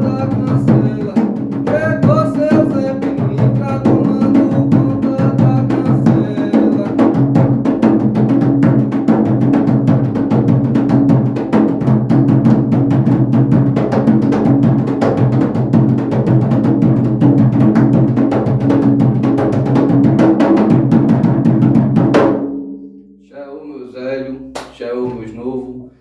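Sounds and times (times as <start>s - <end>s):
hand drum fast rhythm: 0.0s - 22.5s.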